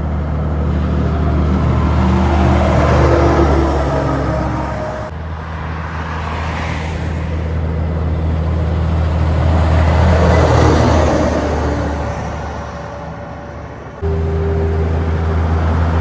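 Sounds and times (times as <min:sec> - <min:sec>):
truck diesel engine passing: 0:00.0 - 0:16.0.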